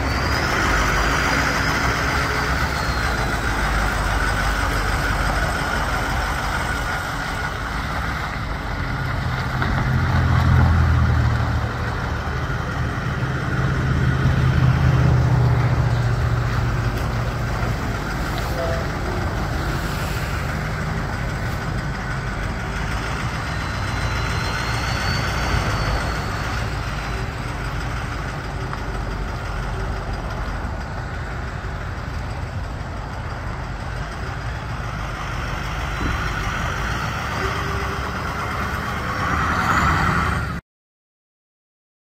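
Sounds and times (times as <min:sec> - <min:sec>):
truck diesel engine rumbling: 0:00.0 - 0:40.6.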